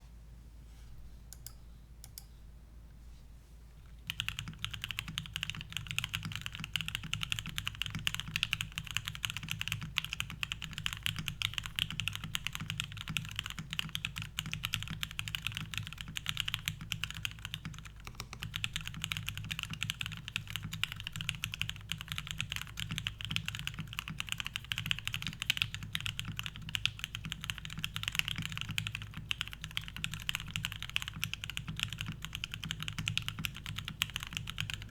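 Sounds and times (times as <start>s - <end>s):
mechanical keyboard typing: 4.1s - 34.9s.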